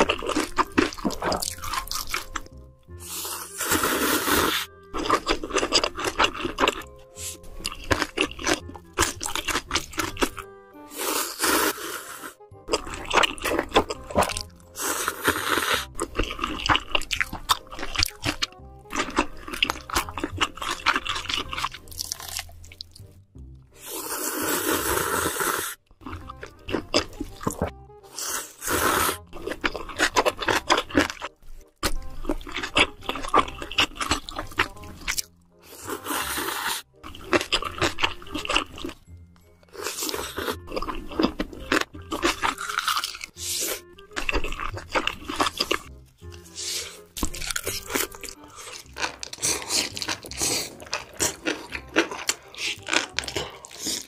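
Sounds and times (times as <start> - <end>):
noodles slurping: 0.0 - 23.1, 23.8 - 39.0, 39.6 - 54.0
crunchy chewing: 0.0 - 23.2, 23.8 - 54.0.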